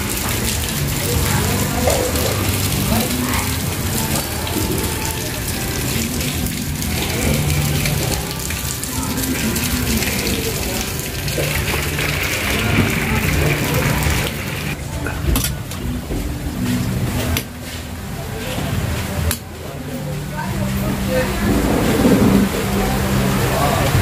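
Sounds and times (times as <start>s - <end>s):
rain pouring: 0.0s - 24.0s.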